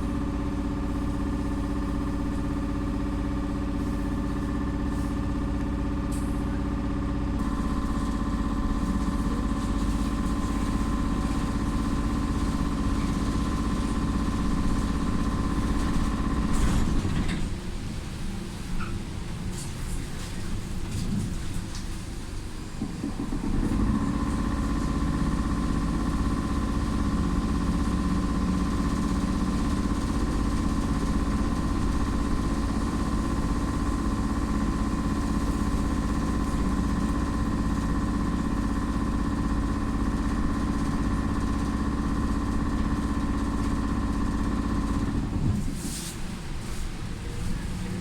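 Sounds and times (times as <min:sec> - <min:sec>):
trolleybus electric hum and whine: 0:00.0 - 0:48.0.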